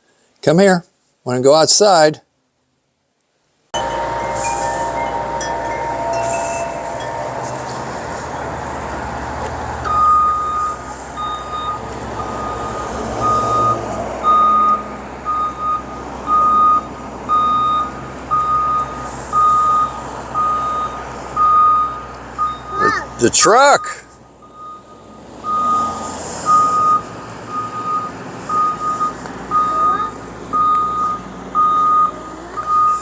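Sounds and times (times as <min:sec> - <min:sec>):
outdoor background noise: 0:00.0 - 0:33.0
truck reversing alarm beeping: 0:03.8 - 0:33.0.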